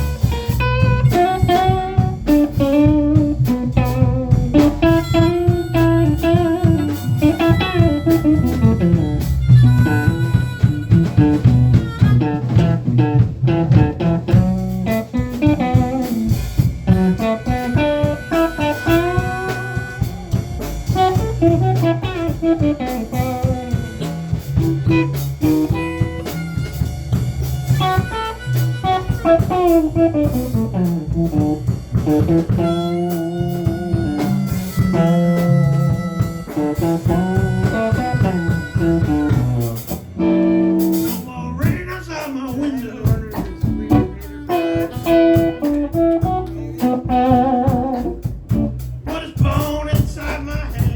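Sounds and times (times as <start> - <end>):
lead guitar bending notes: 0.0 - 50.1
blues band playing: 0.0 - 50.9.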